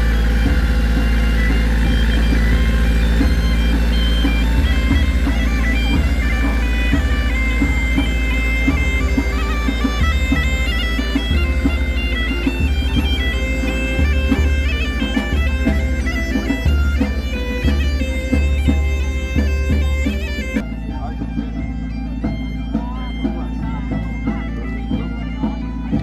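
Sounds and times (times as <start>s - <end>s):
accordion playing folk tune: 0.0s - 26.0s
bass drum beating: 0.0s - 26.0s.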